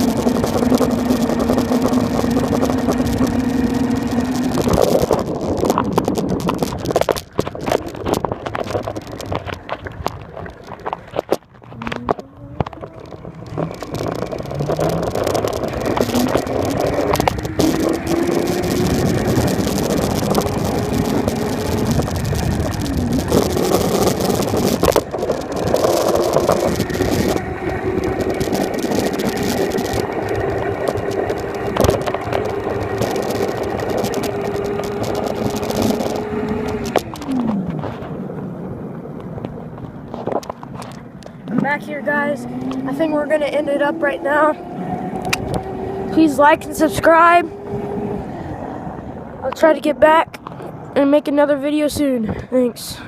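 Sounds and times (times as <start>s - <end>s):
electric motor whining: 0.0s - 9.7s, 11.6s - 38.5s, 40.3s - 49.5s.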